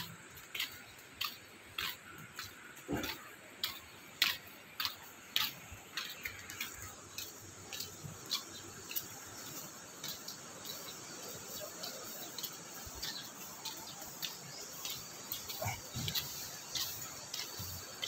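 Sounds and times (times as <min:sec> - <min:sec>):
footsteps on gritty concrete: 0:00.0 - 0:18.0.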